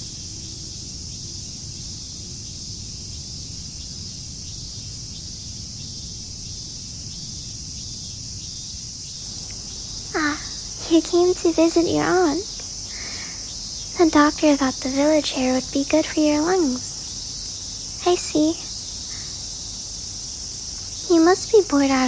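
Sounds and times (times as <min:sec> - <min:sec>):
cicadas shrilling: 0:00.0 - 0:22.0.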